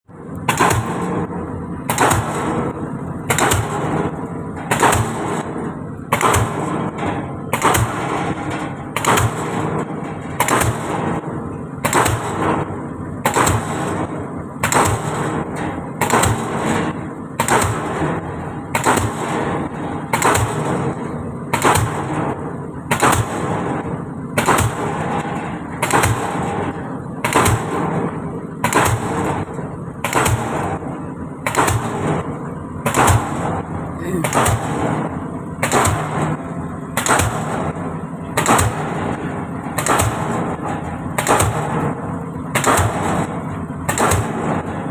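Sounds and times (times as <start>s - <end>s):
pile hammer running rumble: 0.1s - 44.9s
pile hammer blows: 0.2s - 44.9s.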